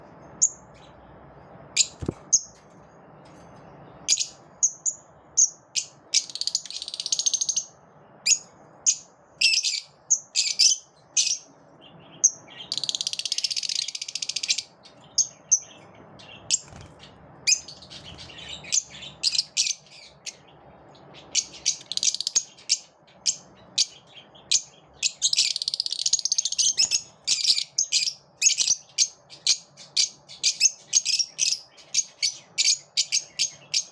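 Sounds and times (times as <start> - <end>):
lovebirds chirping: 0.1 - 33.9
rapid bird chattering: 4.1 - 20.6, 21.2 - 33.9.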